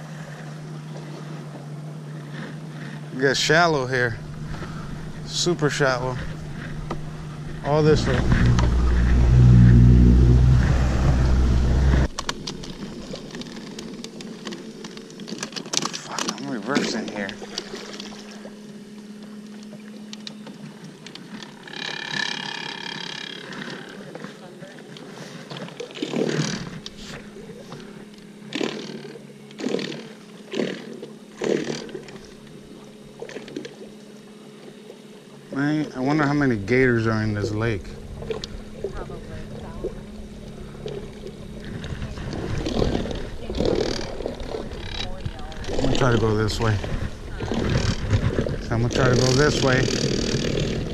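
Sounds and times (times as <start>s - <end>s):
boat motor humming: 0.0s - 50.9s
propeller churning water: 0.0s - 50.9s.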